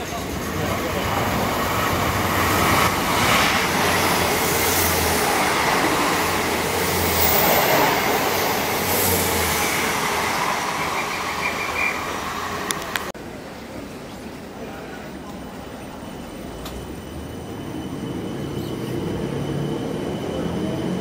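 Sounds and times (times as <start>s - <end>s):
train wheels on track: 0.0s - 21.0s.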